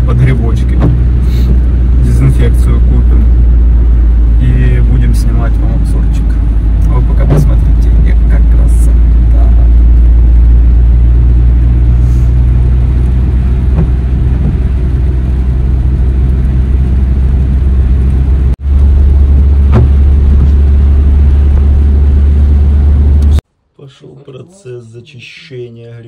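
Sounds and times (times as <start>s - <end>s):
car driving low rumble: 0.0s - 26.0s.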